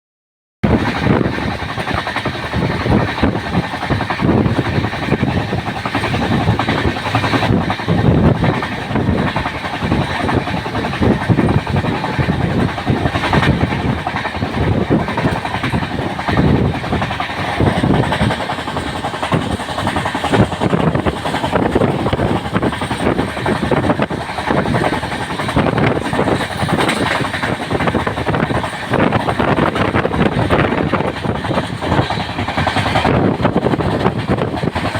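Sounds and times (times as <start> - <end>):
train rattling along track: 0.6 - 34.9.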